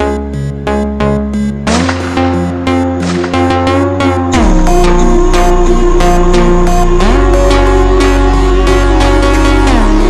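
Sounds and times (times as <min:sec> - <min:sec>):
electronic music with synth chords: 0:00.0 - 0:10.0.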